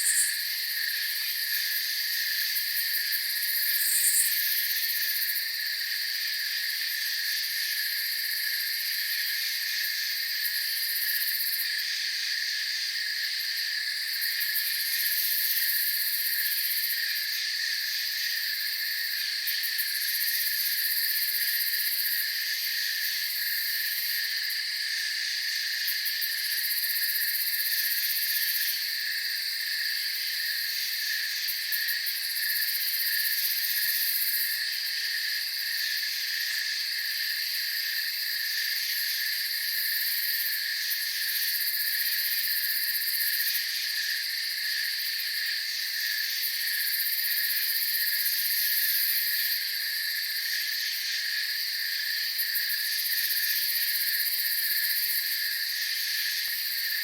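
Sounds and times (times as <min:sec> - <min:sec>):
crickets and insects trilling: 0:00.0 - 0:57.0
shrill insect layer: 0:00.0 - 0:57.0.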